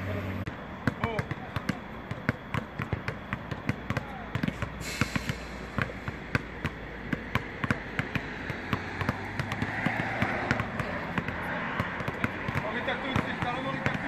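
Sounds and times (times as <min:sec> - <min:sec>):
basketballs bouncing on court: 0:00.5 - 0:14.0.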